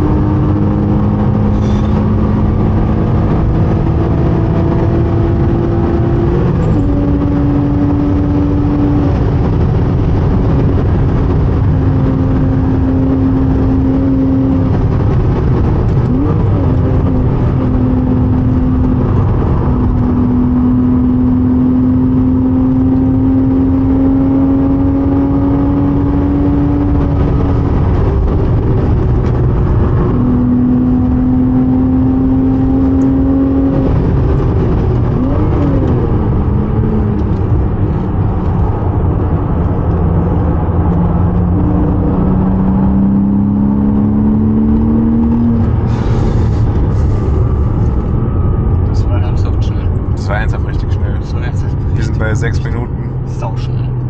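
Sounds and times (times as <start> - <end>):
car engine revving through gears: 0.0 - 54.0
road and wind noise: 0.0 - 54.0.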